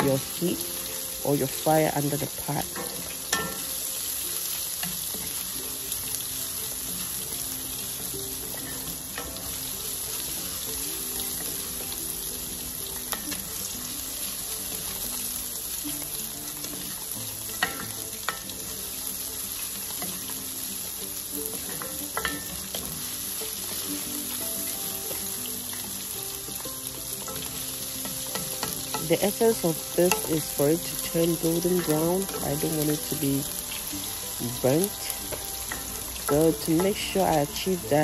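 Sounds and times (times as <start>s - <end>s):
garlic sizzling in butter: 0.0s - 38.0s.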